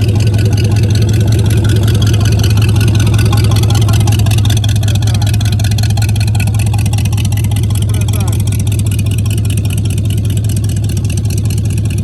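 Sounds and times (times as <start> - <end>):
car engine idling loudly: 0.0 - 12.0.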